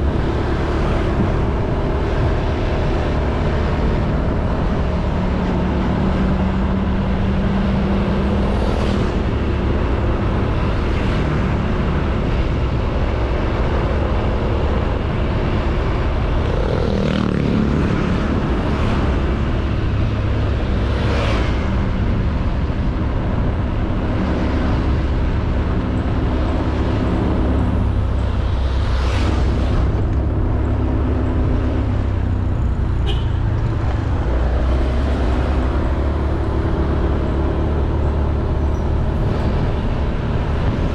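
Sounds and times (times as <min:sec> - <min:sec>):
passing traffic: 0:00.0 - 0:40.9
road noise: 0:00.0 - 0:40.9
wind rumble on microphone: 0:00.0 - 0:40.9.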